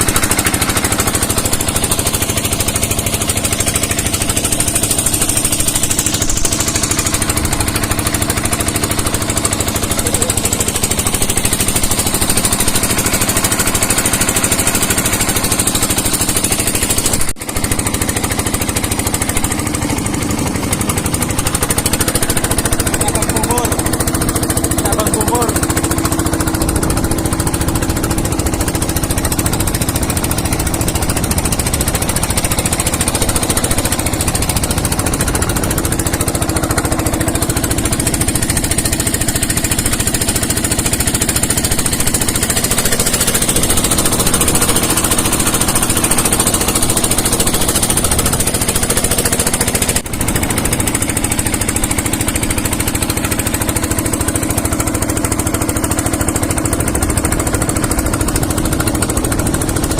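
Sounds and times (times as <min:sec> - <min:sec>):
fast hard rattle: 0:00.0 - 0:59.9
motorcycle engine running: 0:00.0 - 0:59.9.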